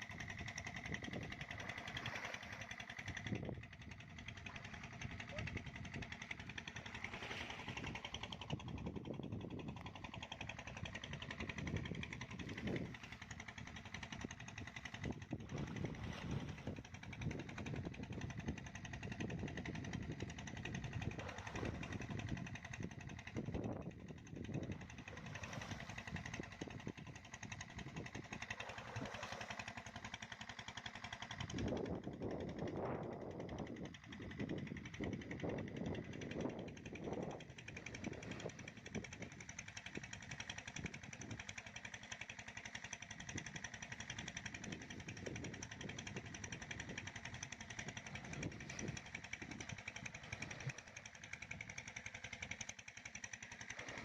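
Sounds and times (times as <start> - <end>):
motor running with fast pulsing: 0.0 - 54.0.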